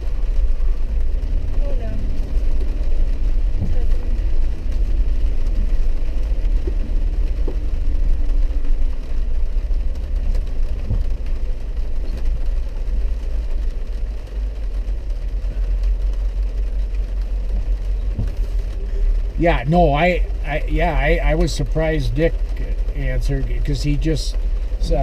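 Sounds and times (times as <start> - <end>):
engine rumble inside car cabin: 0.0 - 25.0.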